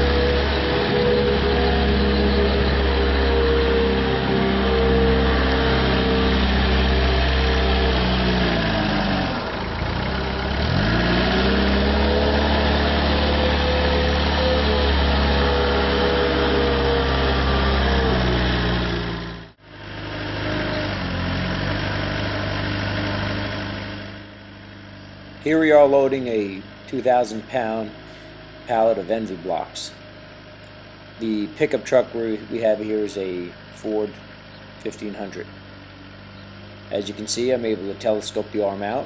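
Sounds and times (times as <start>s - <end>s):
telehandler engine revving: 0.0s - 39.0s.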